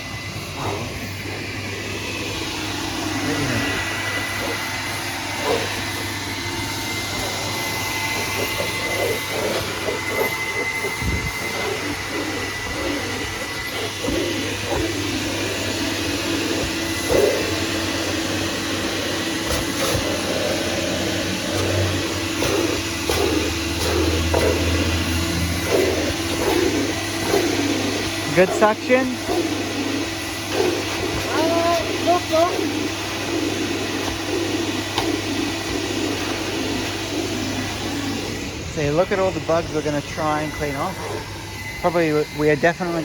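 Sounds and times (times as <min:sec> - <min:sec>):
vacuum cleaner running with high whine: 0:00.0 - 0:43.0
hose knocking and rubbing: 0:03.6 - 0:38.1.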